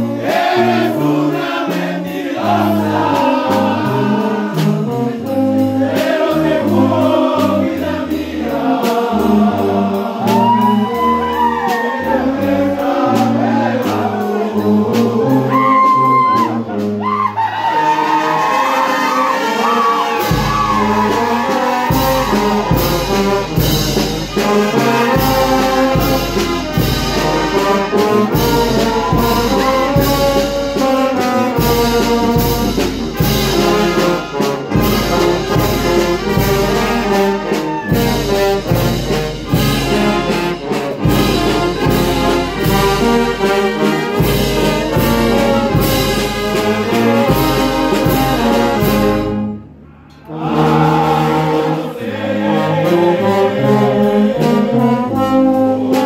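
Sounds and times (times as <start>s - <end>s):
percussion beat: 0.0s - 17.1s, 19.4s - 49.3s
brass band playing: 0.0s - 56.0s.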